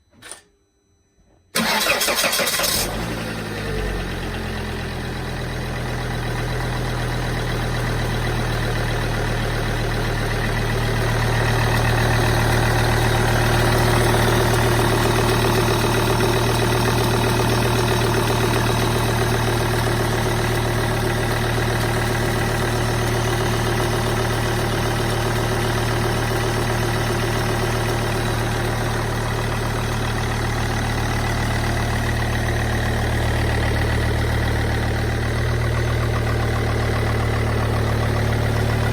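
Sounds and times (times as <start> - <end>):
diesel engine idling with knock: 3.5 - 38.9.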